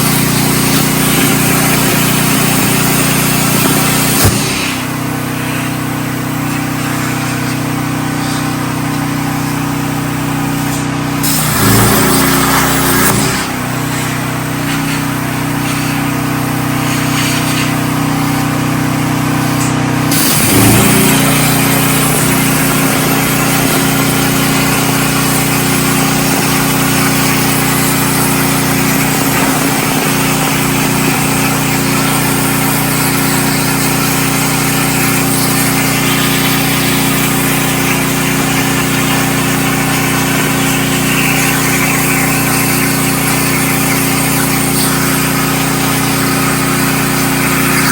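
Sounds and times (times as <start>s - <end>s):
generator engine humming: 0.0s - 47.9s
plasma cutter hiss: 0.0s - 47.9s.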